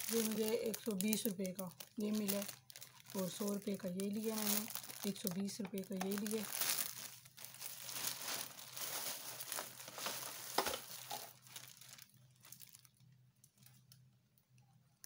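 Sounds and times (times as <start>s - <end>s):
cellophane crinkling: 0.0s - 14.2s.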